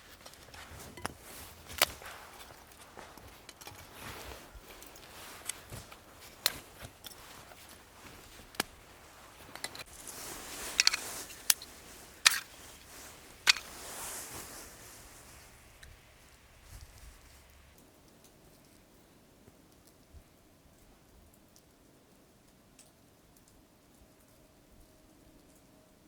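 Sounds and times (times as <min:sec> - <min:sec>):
light hiss: 0:00.0 - 0:24.3.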